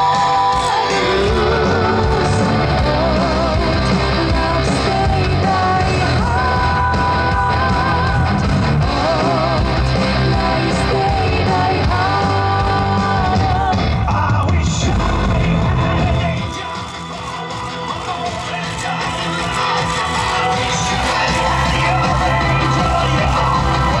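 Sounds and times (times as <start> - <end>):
rock music with singing: 0.0 - 24.0.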